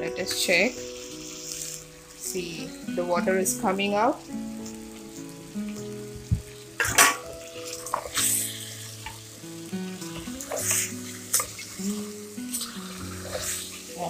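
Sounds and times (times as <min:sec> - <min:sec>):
chicken sizzling in oil: 0:00.0 - 0:14.0
soft background music: 0:00.0 - 0:14.0.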